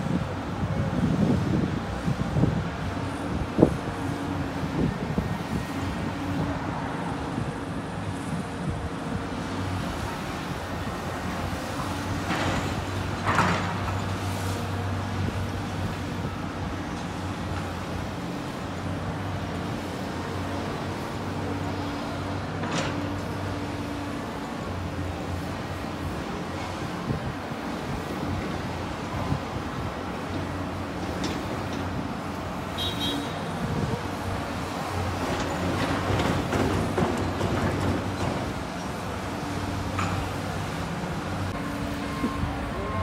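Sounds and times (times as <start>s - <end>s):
diesel engines running: 0.0s - 43.0s
excavator digging dirt: 0.0s - 43.0s.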